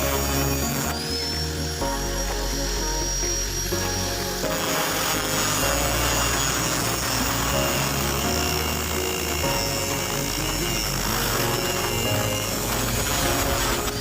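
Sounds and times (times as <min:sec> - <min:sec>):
background music with bass: 0:00.0 - 0:14.0
power grinder grinding steel: 0:00.0 - 0:14.0.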